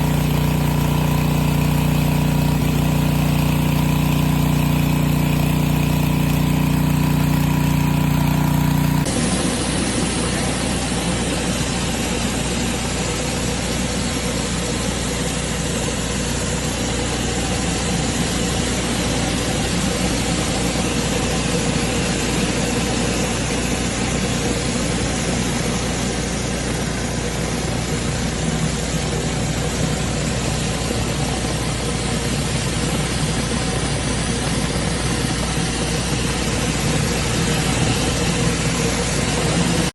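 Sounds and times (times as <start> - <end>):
pressure washer engine: 0.0 - 39.9.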